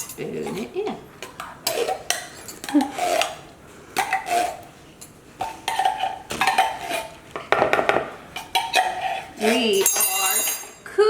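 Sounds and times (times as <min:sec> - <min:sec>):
spoon scraping and clinking a bowl: 0:00.0 - 0:10.8.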